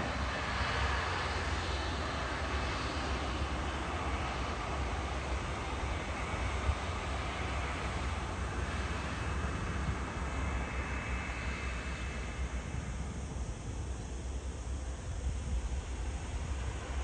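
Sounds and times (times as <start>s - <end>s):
faint high whine: 0.0s - 17.0s
jet engines rushing while taxiing: 0.0s - 17.0s.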